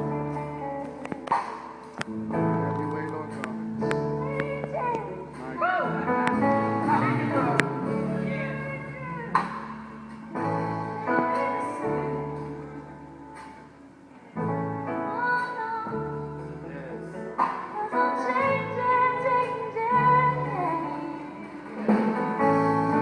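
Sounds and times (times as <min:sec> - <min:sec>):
gospel keyboard chords: 0:00.0 - 0:23.0.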